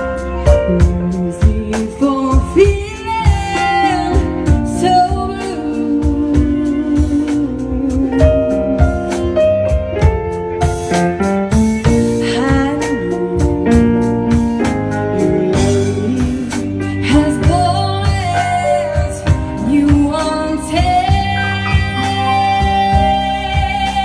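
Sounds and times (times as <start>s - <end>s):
live band music: 0.0s - 24.0s.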